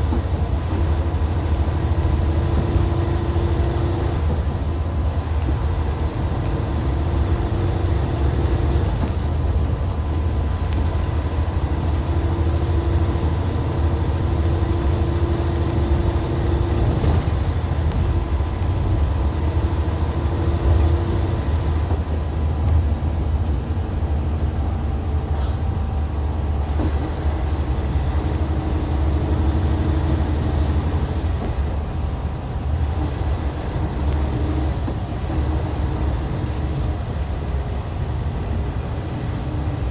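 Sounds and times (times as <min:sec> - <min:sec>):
diesel engine droning: 0:00.0 - 0:39.9
road noise: 0:00.0 - 0:39.9.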